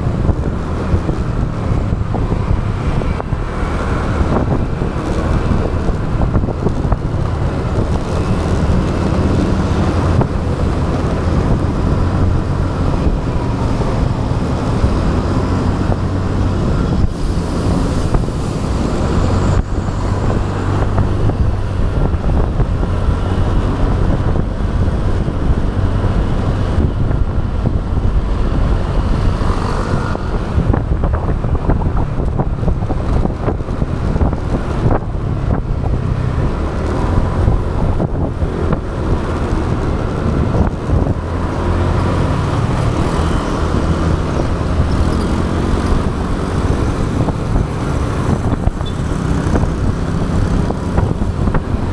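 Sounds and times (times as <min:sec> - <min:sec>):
motorbike engine hum: 0:00.0 - 0:51.9
road noise: 0:00.0 - 0:51.9
wind rushing over microphone: 0:00.0 - 0:51.9.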